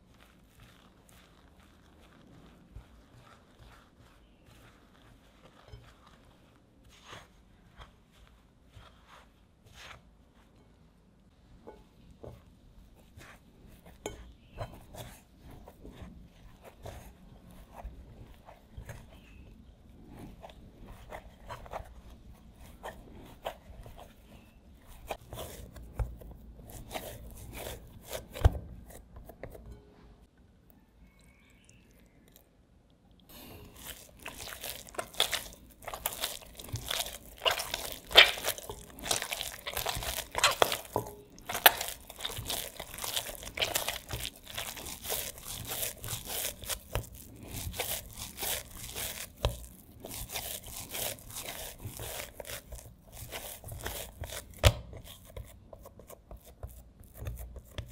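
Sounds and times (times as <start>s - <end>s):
dough squishing and slapping: 0.0s - 29.9s, 33.3s - 57.9s
hands mixing crumbly dough: 0.0s - 57.9s.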